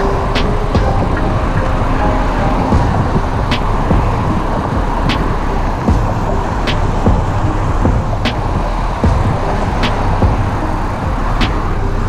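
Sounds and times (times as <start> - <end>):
passing cars: 0.0 - 12.0
wind and road noise: 0.0 - 12.0.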